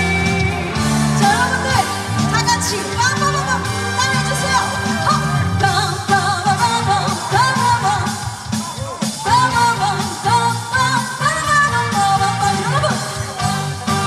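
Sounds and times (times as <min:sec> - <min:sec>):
woman singing wordless melody: 0:00.0 - 0:08.4, 0:09.2 - 0:13.6
live band music: 0:00.0 - 0:14.0.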